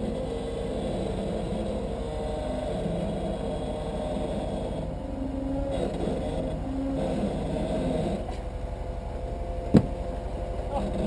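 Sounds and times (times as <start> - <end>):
off-road vehicle engine at low revs: 0.0 - 11.0.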